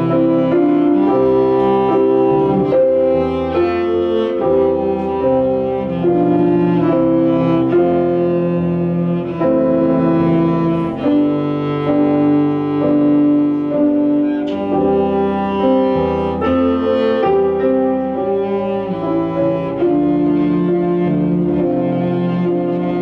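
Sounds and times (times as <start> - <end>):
slow instrumental music: 0.0 - 23.0.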